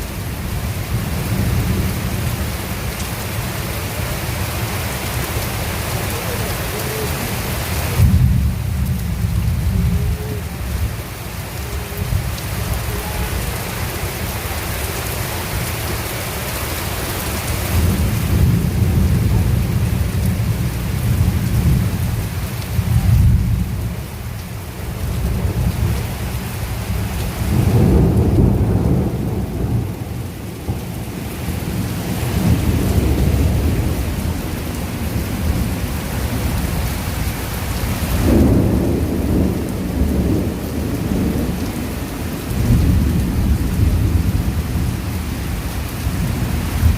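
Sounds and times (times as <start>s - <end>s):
heavy rain: 0.0s - 46.9s
thunder rumbling: 0.0s - 46.9s.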